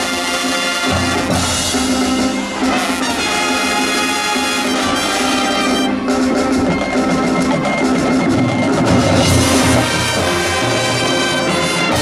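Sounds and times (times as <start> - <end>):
marching band brass chords: 0.0 - 12.0.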